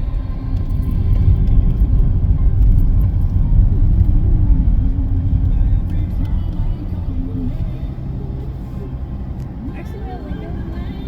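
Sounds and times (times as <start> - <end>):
vehicle rumbling from inside: 0.0 - 11.0.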